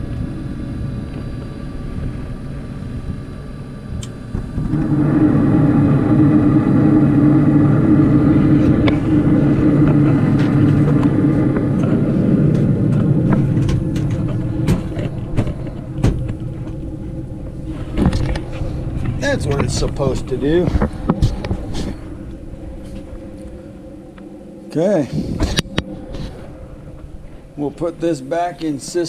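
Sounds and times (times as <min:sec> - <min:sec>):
furnace humming: 0:00.0 - 0:29.0.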